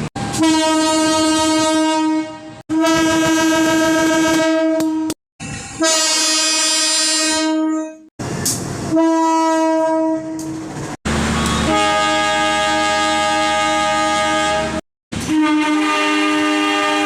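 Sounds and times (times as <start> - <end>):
locomotive air horn blasts: 0.2 - 8.1, 8.9 - 10.6, 11.4 - 17.0.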